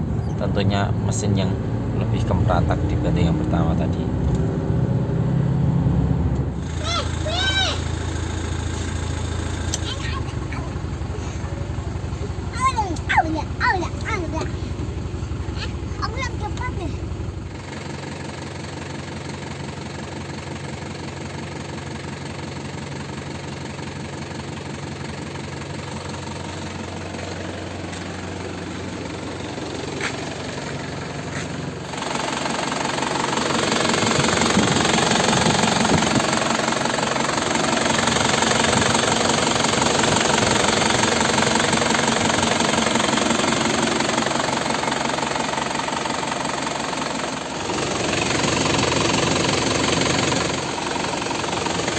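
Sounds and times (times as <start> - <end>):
diesel engine knocking: 6.2 - 51.9.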